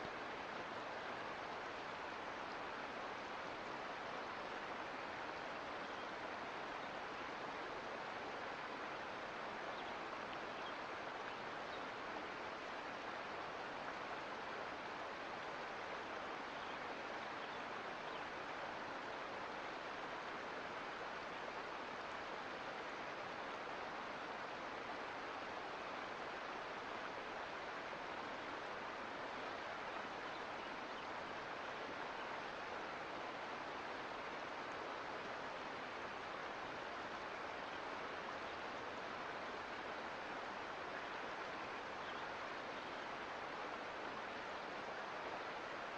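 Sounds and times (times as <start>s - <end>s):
creek water rushing: 0.0s - 45.9s.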